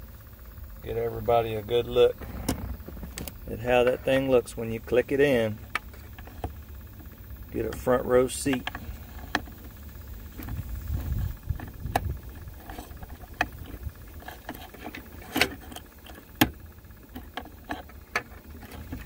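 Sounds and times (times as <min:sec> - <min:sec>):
low handling rumble: 0:00.0 - 0:19.0.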